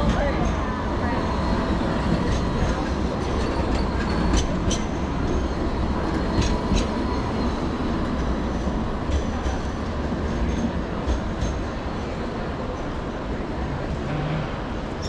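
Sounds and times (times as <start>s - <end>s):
tram rumbling and humming: 0.0s - 15.0s.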